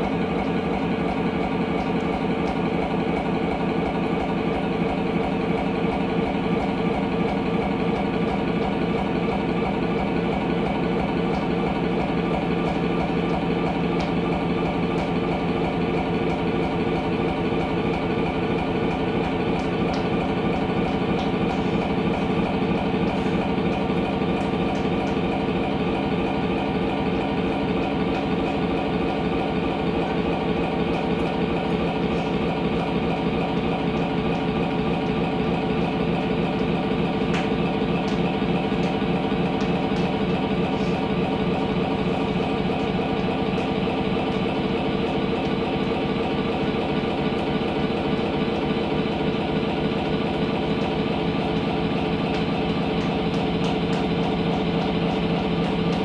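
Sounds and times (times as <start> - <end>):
loud engine-like drone: 0.0 - 56.0.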